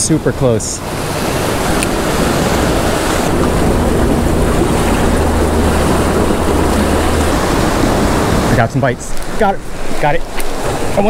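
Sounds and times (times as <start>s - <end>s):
surf washing against rocks: 0.0s - 11.0s.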